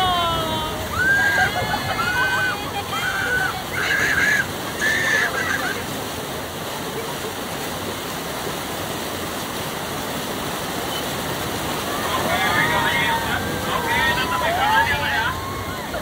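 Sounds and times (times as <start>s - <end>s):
water rushing down stone cascade: 0.0s - 16.0s.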